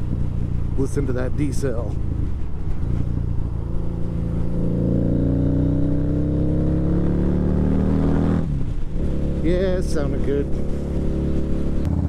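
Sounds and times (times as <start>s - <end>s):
low wind rumble: 0.0s - 12.0s
motorcycle engine decelerating: 0.0s - 12.0s.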